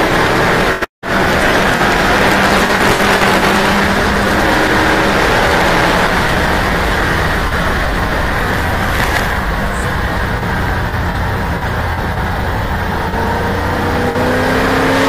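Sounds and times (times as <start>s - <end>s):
race car engine under load: 0.0s - 15.0s
wind and road noise: 0.0s - 15.0s.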